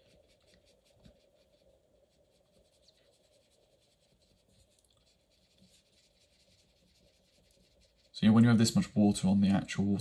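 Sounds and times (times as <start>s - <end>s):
drawing tip scratching on paper: 0.0s - 8.2s.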